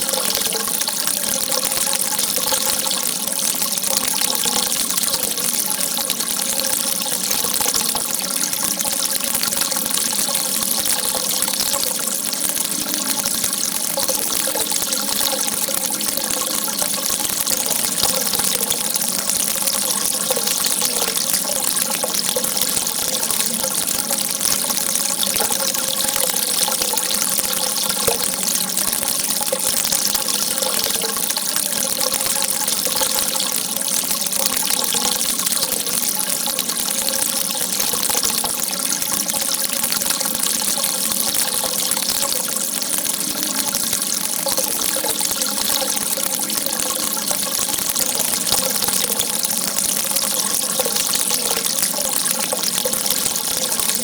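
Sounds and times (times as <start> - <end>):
water gushing in a jet: 0.0 - 54.0.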